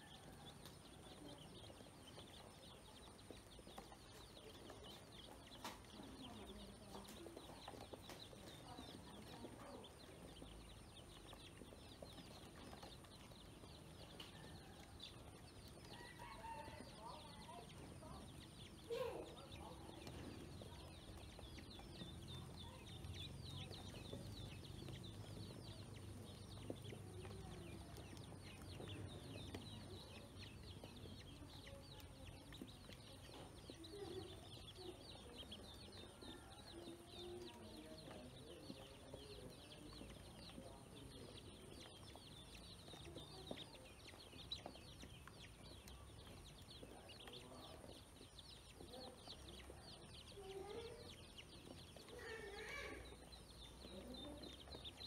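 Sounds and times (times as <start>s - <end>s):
ducklings peeping: 0.0s - 55.0s.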